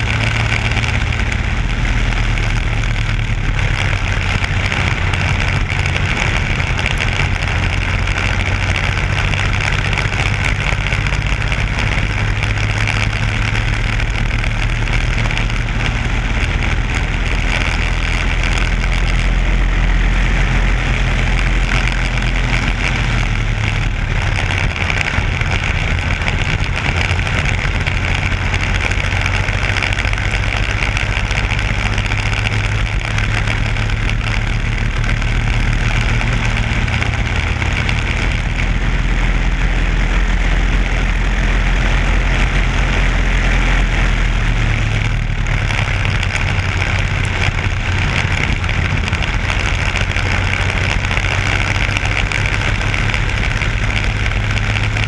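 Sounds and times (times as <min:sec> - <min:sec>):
kart engine running hard: 0:00.0 - 0:55.0
wind and road rush: 0:00.0 - 0:55.0.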